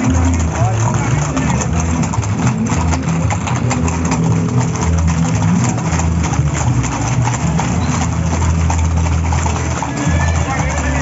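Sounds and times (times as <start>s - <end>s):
horse hooves on pavement: 0.0s - 11.0s.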